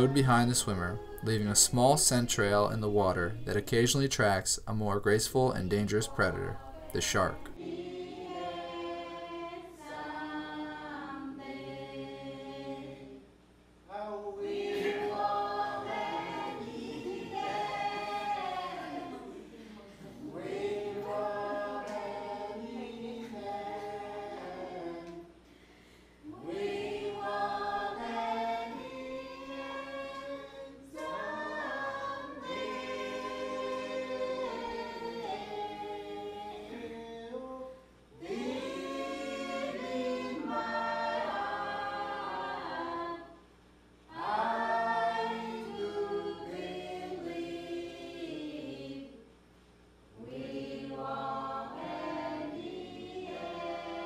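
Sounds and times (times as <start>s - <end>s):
choir singing a cappella: 0.0s - 43.5s, 44.1s - 49.3s, 50.1s - 54.0s.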